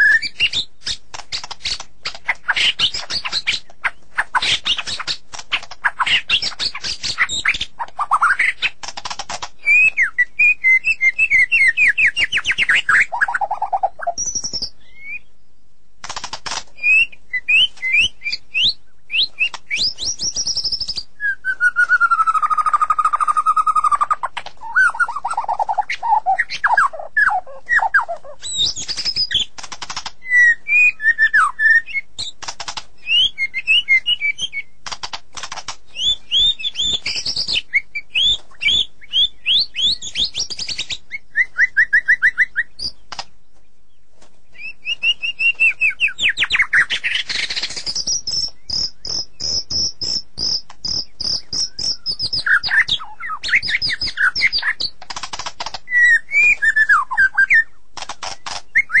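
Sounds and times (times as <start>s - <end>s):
bird singing whistles and trills: 0.0s - 15.4s, 16.7s - 32.4s, 33.0s - 34.8s, 35.9s - 43.2s, 44.5s - 55.0s, 55.9s - 59.0s.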